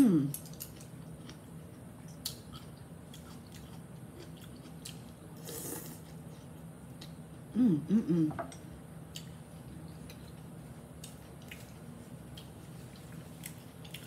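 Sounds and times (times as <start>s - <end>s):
soft chewing: 0.3s - 7.4s, 8.5s - 14.0s.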